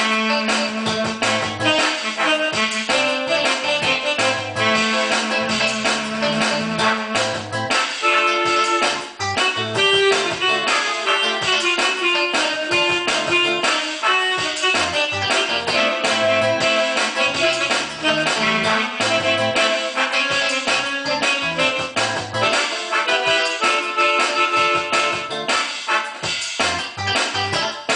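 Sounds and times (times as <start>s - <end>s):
pulsing bass line: 0.0s - 25.6s, 26.6s - 27.9s.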